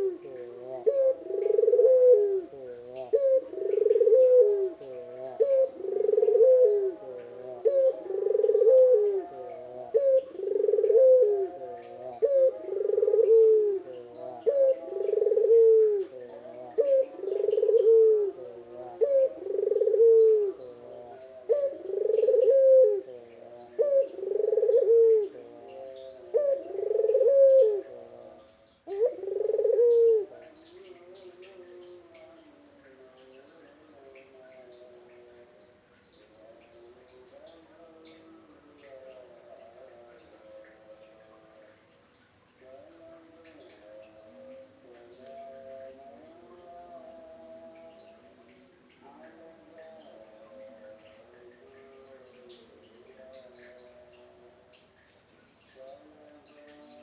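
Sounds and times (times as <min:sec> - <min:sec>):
pigeon cooing: 0:00.0 - 0:35.6, 0:42.6 - 0:54.6.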